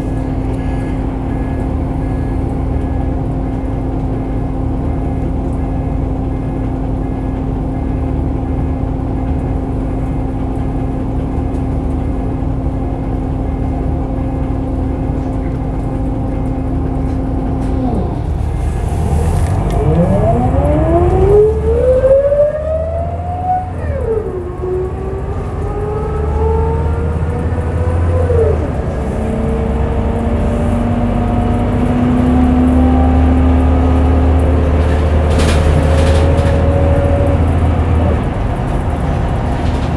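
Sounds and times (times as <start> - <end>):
bus engine humming: 0.0 - 39.9
gearbox whine: 0.0 - 39.9.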